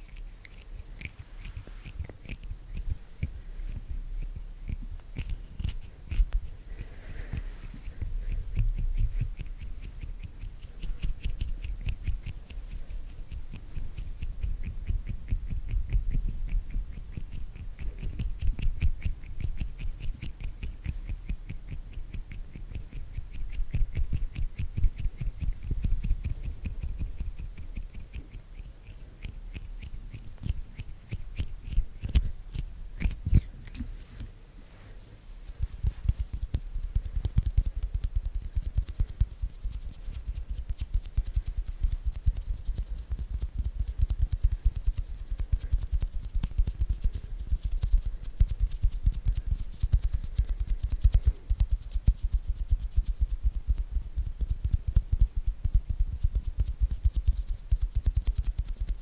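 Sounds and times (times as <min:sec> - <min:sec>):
fingers clicking and patting: 0:00.0 - 0:34.4, 0:35.4 - 0:59.0.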